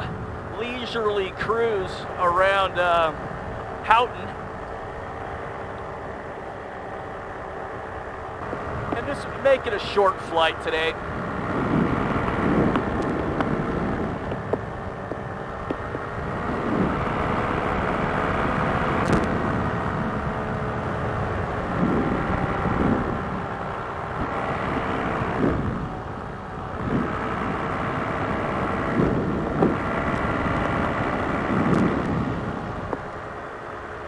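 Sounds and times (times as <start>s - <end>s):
paramotor engine and propeller: 0.0s - 34.0s.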